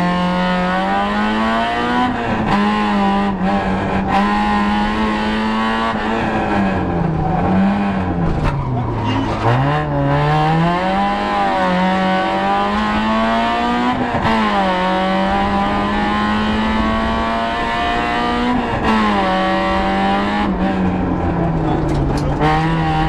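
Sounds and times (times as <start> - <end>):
car engine accelerating: 0.0 - 23.0
road and tyre noise: 0.0 - 23.0.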